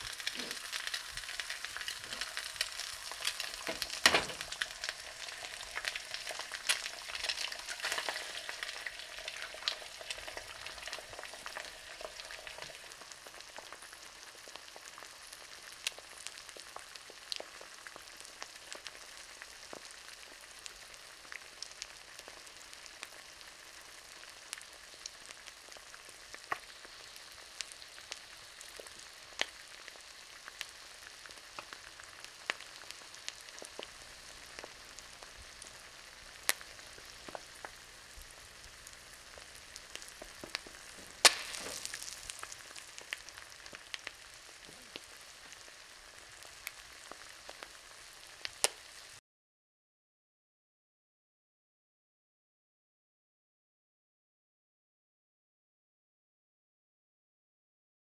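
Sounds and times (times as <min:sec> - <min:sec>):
egg sizzling in a skillet: 0:00.0 - 0:49.2.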